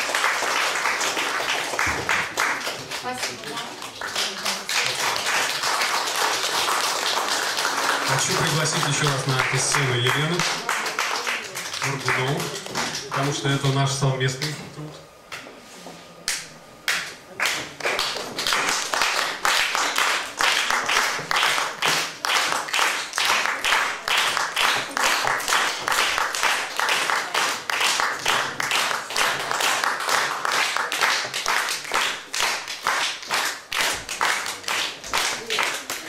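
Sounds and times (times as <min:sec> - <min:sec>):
audience applauding: 0:00.0 - 0:13.9, 0:17.4 - 0:36.0.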